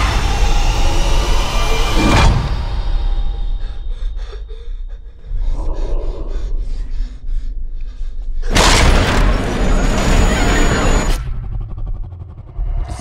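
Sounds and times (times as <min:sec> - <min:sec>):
deep rumbling drone: 0:00.0 - 0:13.0.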